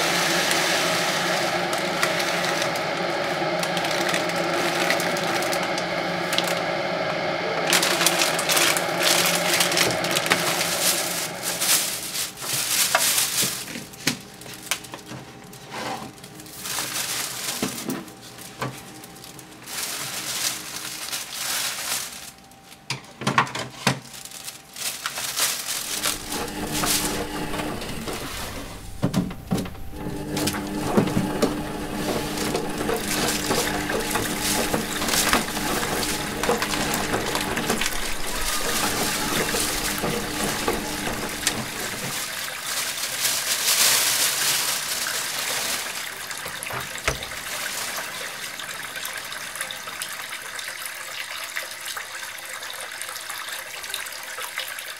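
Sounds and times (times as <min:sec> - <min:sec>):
washing machine humming: 0:00.0 - 0:23.5, 0:24.2 - 0:54.1
plastic bag rustling: 0:00.0 - 0:50.0.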